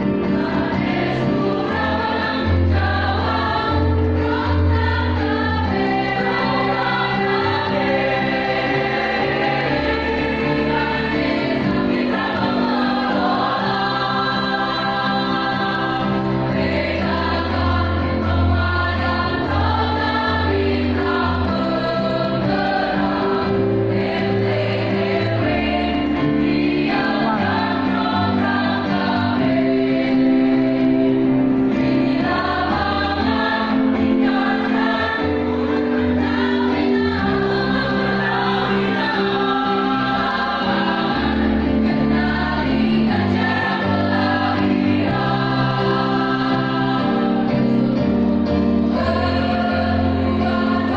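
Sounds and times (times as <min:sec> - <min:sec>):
choir singing in harmony: 0:00.0 - 0:50.9.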